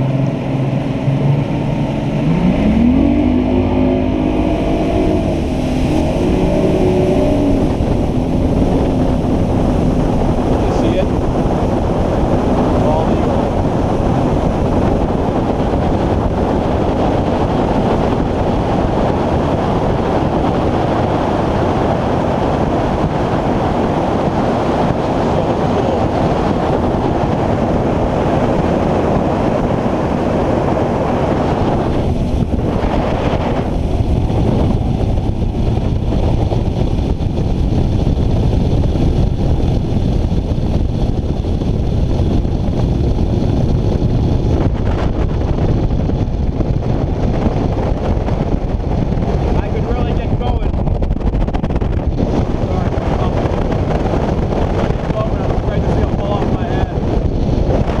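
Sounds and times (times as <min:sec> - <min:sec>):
outboard engine: 0:00.0 - 0:58.0
rushing water: 0:00.0 - 0:58.0
wind noise on microphone: 0:00.0 - 0:58.0.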